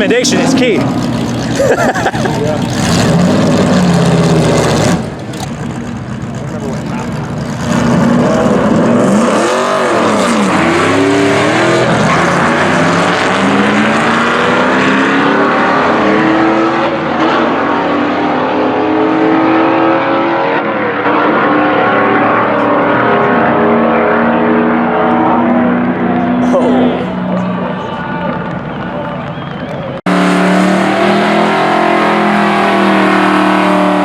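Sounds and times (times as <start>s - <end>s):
drag racing car engine revving: 0.0s - 28.7s, 30.0s - 34.0s.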